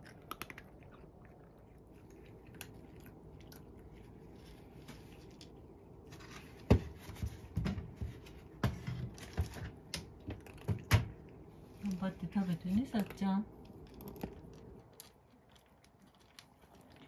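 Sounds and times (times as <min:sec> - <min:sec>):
cat crunching dry kibble: 0:00.0 - 0:17.0.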